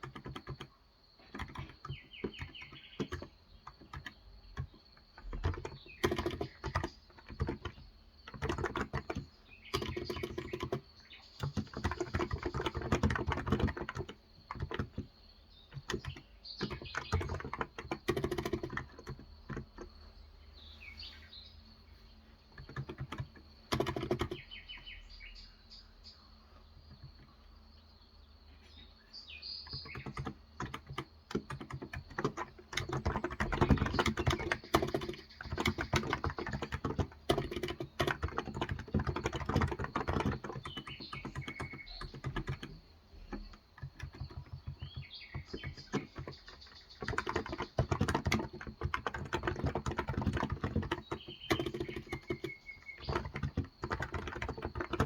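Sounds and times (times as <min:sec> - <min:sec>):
keyboard typing: 0:00.0 - 0:20.3, 0:22.3 - 0:24.8, 0:26.8 - 0:27.4, 0:29.6 - 0:55.0
birds chirping: 0:00.0 - 0:55.0.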